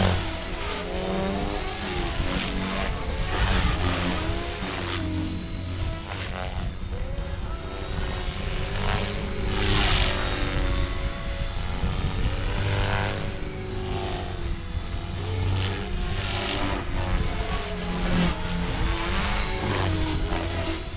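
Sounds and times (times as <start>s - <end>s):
rc helicopter rotor whine: 0.0s - 20.9s.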